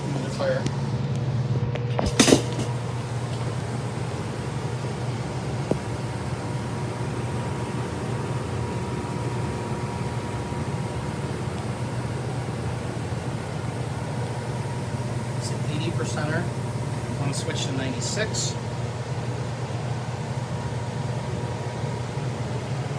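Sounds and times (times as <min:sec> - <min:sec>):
faint steady whine: 0:00.0 - 0:22.9
furnace blower humming: 0:00.0 - 0:22.9.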